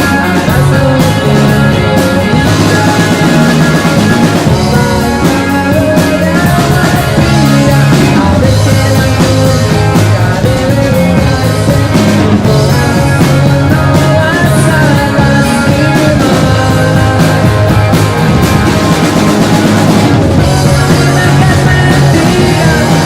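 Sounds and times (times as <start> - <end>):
bass guitar: 0.0 - 23.0
drum kit: 0.0 - 23.0
electric guitars: 0.0 - 23.0.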